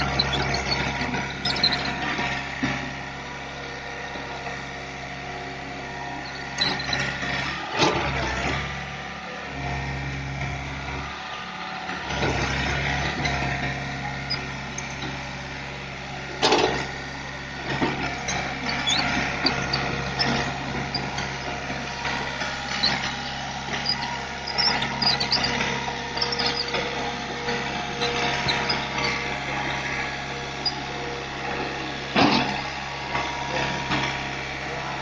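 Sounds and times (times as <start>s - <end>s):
excavator engine running: 0.0s - 35.0s.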